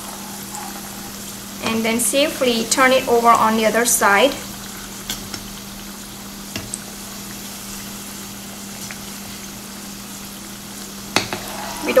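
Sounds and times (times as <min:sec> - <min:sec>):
dumplings sizzling in hot oil: 0:00.0 - 0:12.0.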